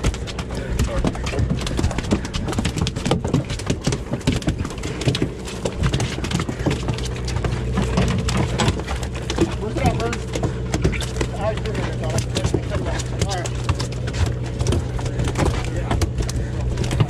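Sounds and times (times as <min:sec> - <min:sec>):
boat engine hum: 0:00.0 - 0:17.0
knocking and thumping on a boat: 0:00.0 - 0:17.0.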